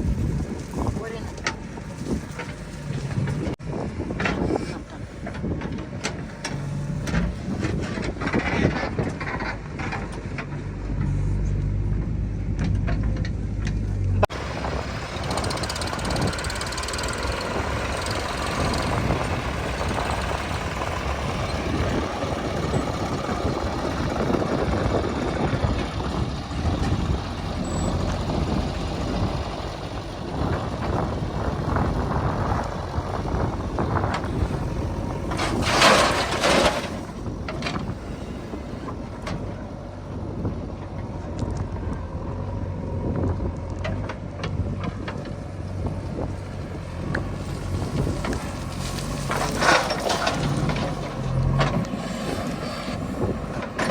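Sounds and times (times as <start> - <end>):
diesel engine running: 0.0 - 53.9
engine knocks: 0.0 - 53.9
rough mechanical din: 1.4 - 39.6, 47.1 - 53.9.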